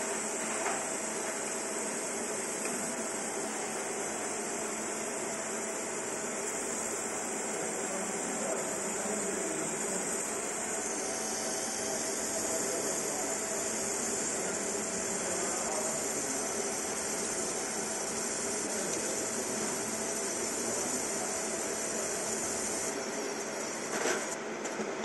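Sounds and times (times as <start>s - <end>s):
laser marking machine hissing: 0.0s - 24.4s.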